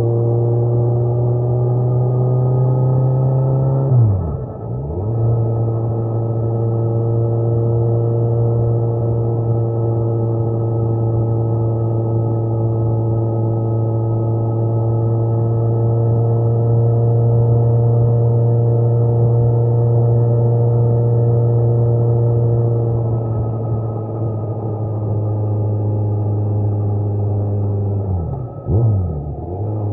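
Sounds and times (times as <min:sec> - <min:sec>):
motorcycle engine droning: 0:00.0 - 0:29.9.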